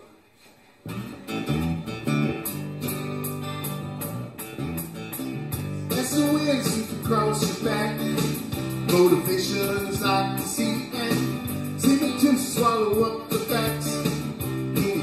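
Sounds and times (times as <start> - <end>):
bass line: 0.9 - 15.0
strummed acoustic guitars: 0.9 - 15.0.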